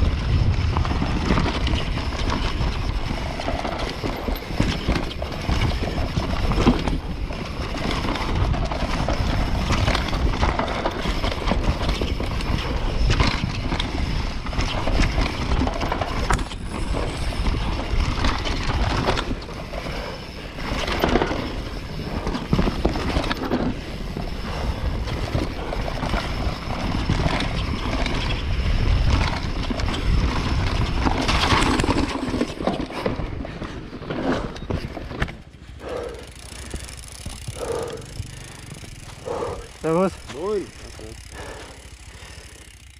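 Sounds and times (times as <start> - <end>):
bike knocks and rattles: 0.0 - 42.9
mountain bike tyres on dirt: 0.0 - 42.9.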